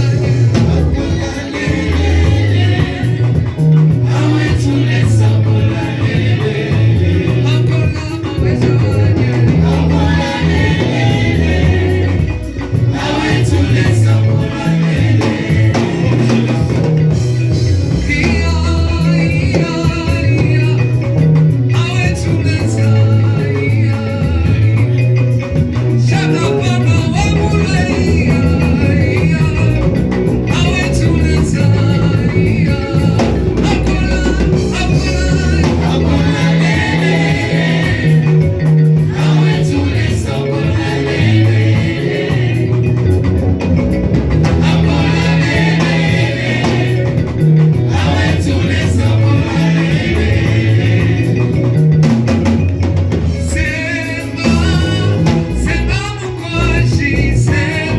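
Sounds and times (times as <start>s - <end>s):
bass line: 0.0s - 57.9s
people singing: 0.0s - 57.9s
worship band playing a hymn: 0.0s - 57.9s.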